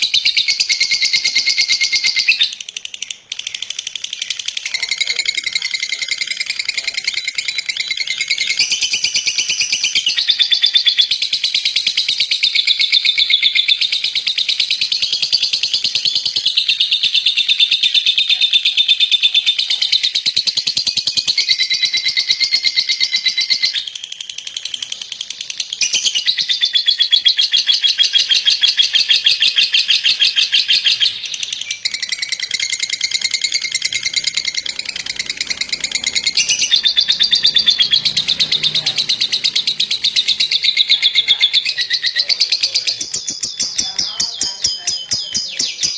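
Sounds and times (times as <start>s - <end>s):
lovebird chattering trill: 0.0s - 45.9s.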